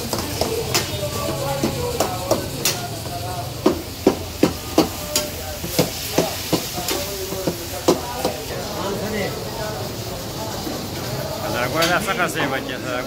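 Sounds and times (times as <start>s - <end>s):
frying sizzle: 0.0s - 13.0s
metal utensils clanking on woks: 0.0s - 13.0s.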